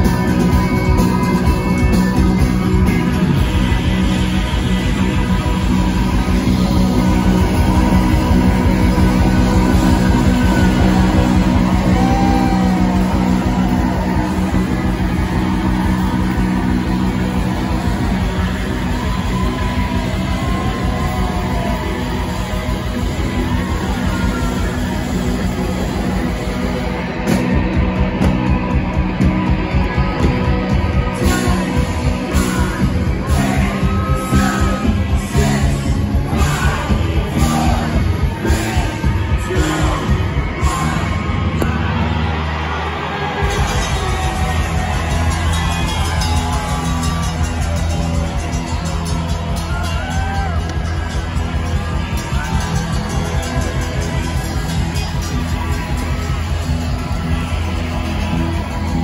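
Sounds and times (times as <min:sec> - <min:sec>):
bass guitar: 0:00.0 - 0:59.0
drums: 0:00.0 - 0:59.0
electric guitar: 0:00.0 - 0:59.0
live rock band playing: 0:00.0 - 0:59.0.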